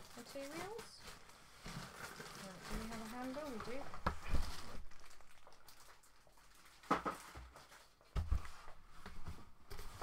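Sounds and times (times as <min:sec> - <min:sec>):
plastic packaging rustling: 0:00.0 - 0:10.0.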